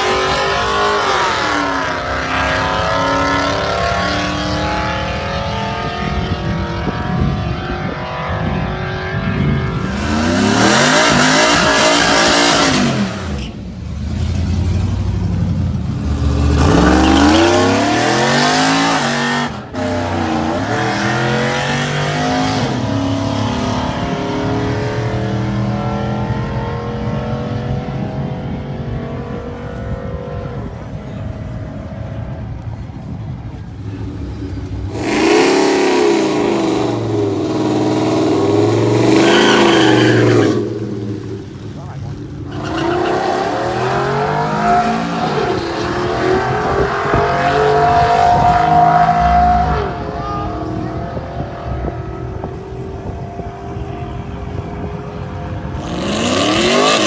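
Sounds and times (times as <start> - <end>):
truck accelerating: 0.0 - 57.0
truck engines revving hard: 0.0 - 57.0.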